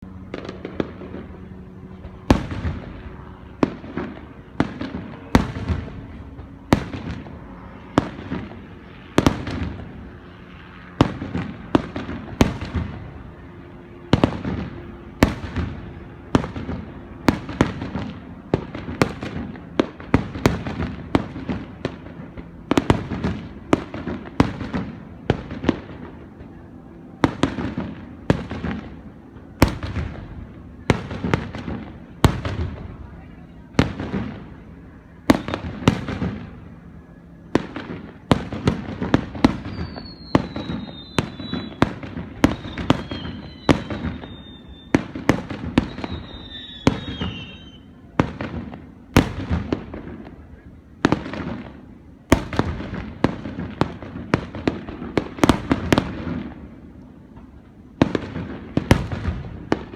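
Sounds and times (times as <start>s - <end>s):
fireworks bursting: 2.2s - 10.2s, 14.1s - 26.6s, 27.2s - 36.8s, 37.4s - 59.9s.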